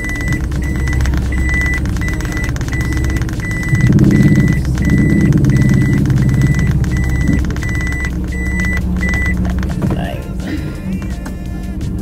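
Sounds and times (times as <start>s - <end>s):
reverse warning beeper: 0.0s - 10.3s
car engine running: 0.0s - 12.0s.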